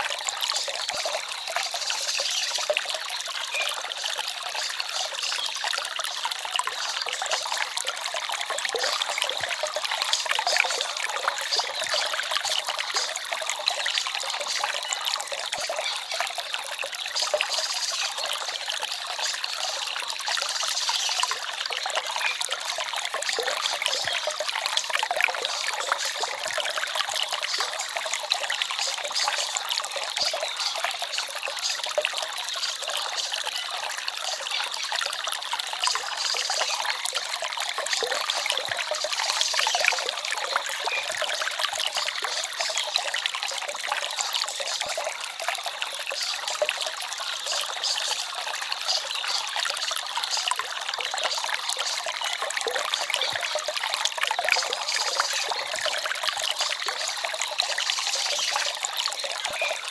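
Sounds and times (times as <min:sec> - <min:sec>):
stream babbling and trickling: 0:00.0 - 0:59.9.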